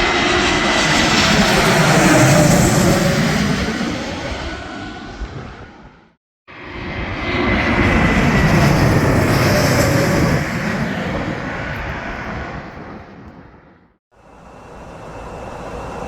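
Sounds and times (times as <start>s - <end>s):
airplane flying past: 0.0s - 16.0s.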